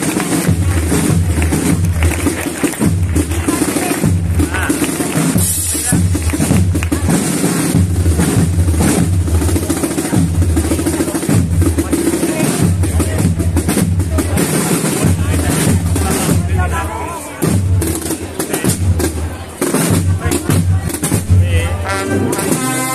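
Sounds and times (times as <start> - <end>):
bass drum beats: 0.0 - 22.9
drum rolls: 0.0 - 22.9
processional band march: 0.0 - 22.9.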